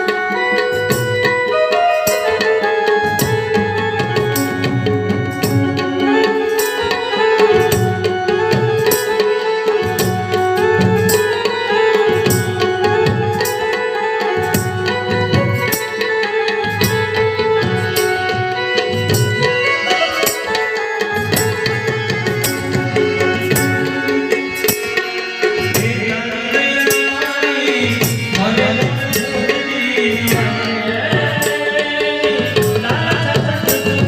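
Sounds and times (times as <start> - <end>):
hand drum rhythm: 0.0 - 34.0.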